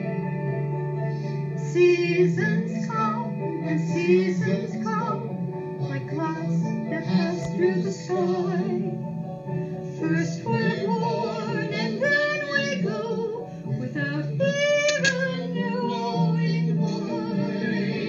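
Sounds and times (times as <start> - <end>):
woman singing: 1.6 - 9.0, 10.0 - 18.0.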